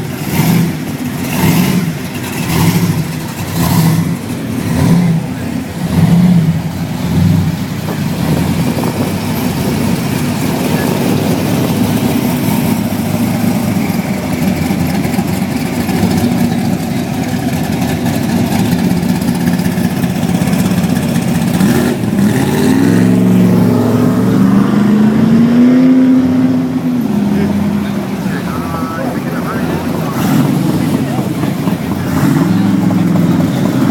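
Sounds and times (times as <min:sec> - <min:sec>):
car engines passing: 0:00.0 - 0:33.9
engine revving: 0:00.0 - 0:33.9.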